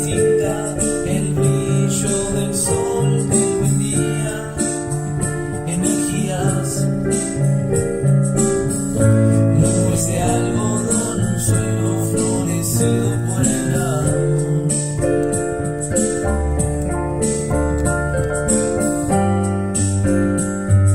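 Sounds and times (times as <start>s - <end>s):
keyboard playing held chords: 0.0s - 20.9s
low bass line: 0.0s - 20.9s.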